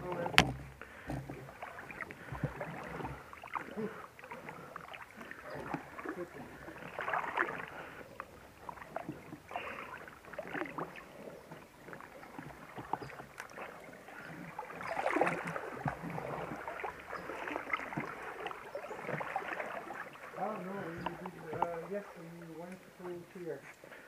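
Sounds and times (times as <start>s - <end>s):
water splashing from wading: 0.0s - 24.0s.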